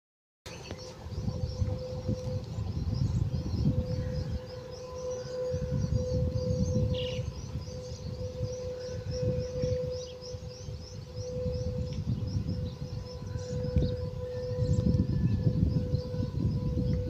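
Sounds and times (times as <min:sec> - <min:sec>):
birds chirping: 0:00.5 - 0:17.0
steady droning tone: 0:00.5 - 0:17.0
uneven low rumble: 0:00.5 - 0:17.0.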